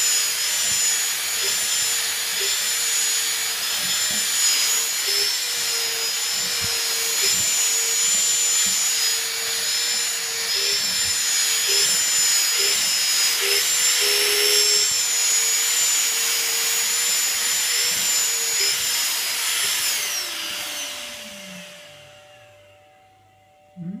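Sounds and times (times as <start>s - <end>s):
vacuum cleaner motor whining: 0.0s - 23.8s.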